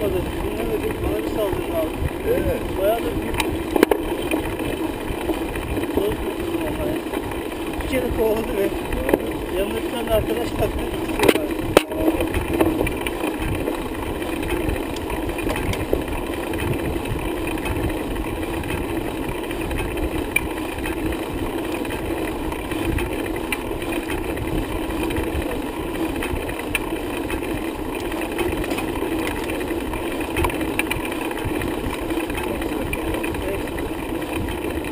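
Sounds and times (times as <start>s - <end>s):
steady bicycle riding hum: 0.0s - 34.9s
wind buffeting microphone: 0.0s - 34.9s.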